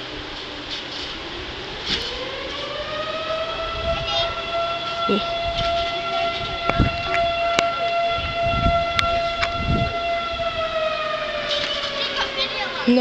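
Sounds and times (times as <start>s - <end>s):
fire siren winding up: 1.2s - 12.9s.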